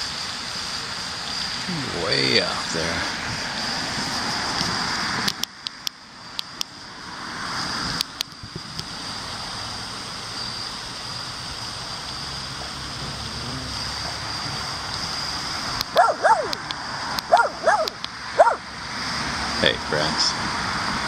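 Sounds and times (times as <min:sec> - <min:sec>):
continuous high whine: 0:00.0 - 0:21.0
outdoor background noise: 0:00.0 - 0:21.0.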